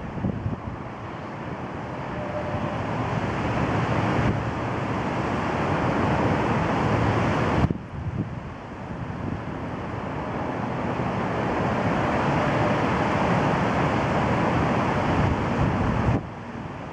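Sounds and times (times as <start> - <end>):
highway traffic noise: 0.0 - 16.9
wind on microphone: 0.0 - 16.9.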